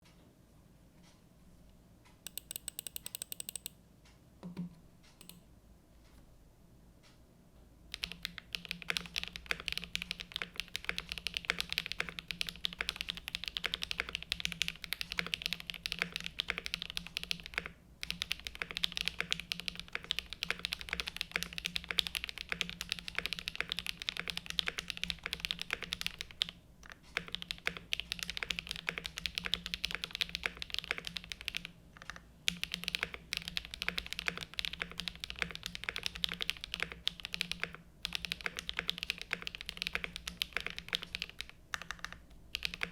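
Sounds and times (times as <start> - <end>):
typing on mechanical keyboard: 2.3 - 3.7, 7.9 - 42.9.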